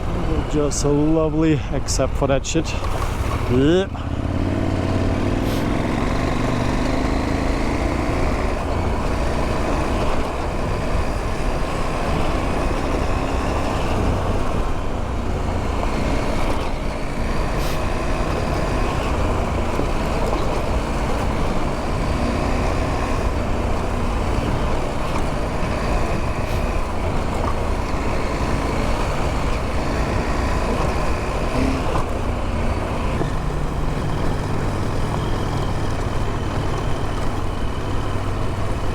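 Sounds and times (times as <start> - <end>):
motorcycle engine running: 0.0 - 1.4, 2.7 - 38.9.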